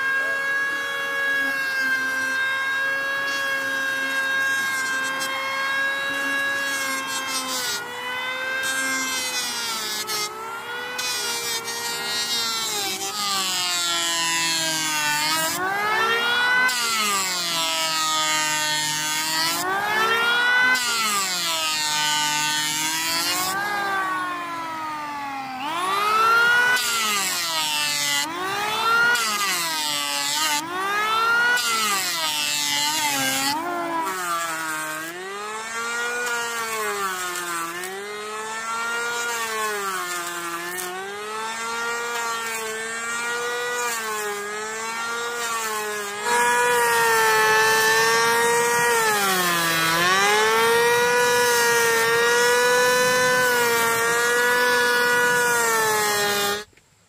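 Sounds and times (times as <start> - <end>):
power tool motor whine cutting wood: 0.0 - 57.0.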